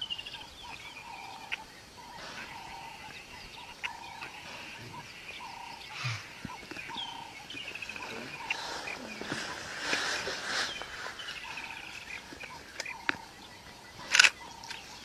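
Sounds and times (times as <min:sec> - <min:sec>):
birds calling: 0:00.0 - 0:15.0
high bird chirps: 0:00.0 - 0:15.0.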